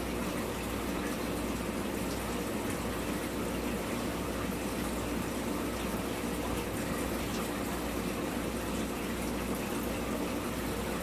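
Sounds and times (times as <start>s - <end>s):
low steady hum: 0.0s - 11.0s
running water rushing: 0.0s - 11.0s.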